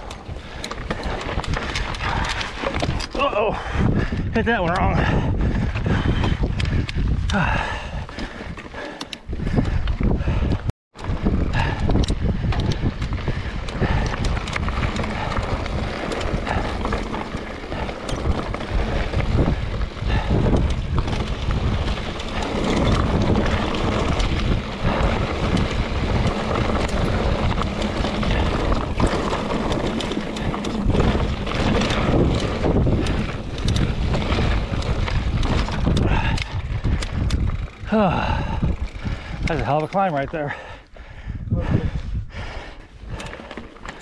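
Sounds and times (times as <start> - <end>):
bike knocking and rattling: 0.0 - 41.1, 42.8 - 44.0
wind buffeting microphone: 0.0 - 44.0
tyres rumbling on rock: 0.3 - 40.6.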